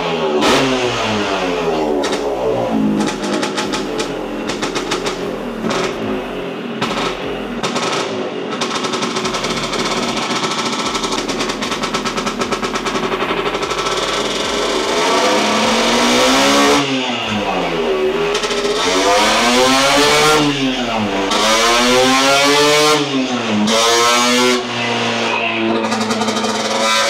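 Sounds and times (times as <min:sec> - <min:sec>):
two-stroke engine popping: 0:00.0 - 0:24.9, 0:25.6 - 0:27.0.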